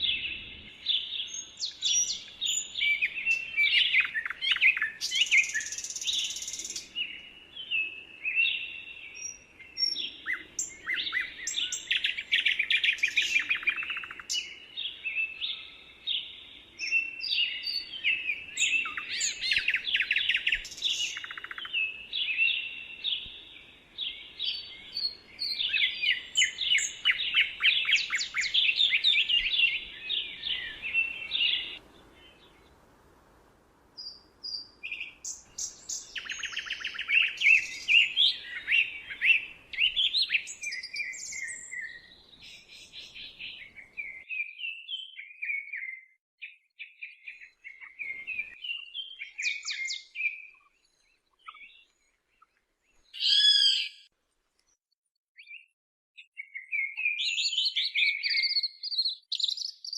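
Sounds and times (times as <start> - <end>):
songbirds singing: 0.0 - 32.9, 34.0 - 54.8, 55.4 - 59.9.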